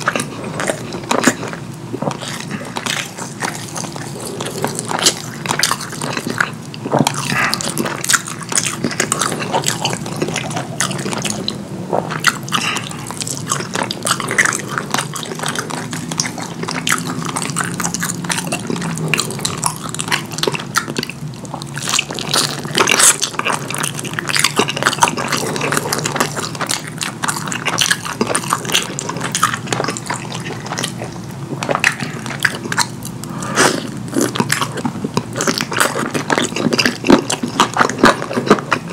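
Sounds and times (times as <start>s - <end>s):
wet chewing and smacking: 0.0s - 38.9s.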